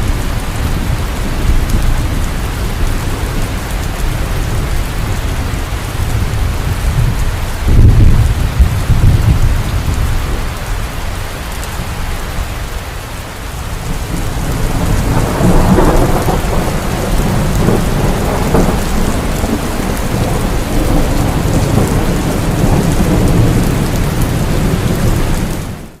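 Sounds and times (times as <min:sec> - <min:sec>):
thunder rolling: 0:00.0 - 0:10.7, 0:13.8 - 0:25.9
heavy rain: 0:00.0 - 0:26.0.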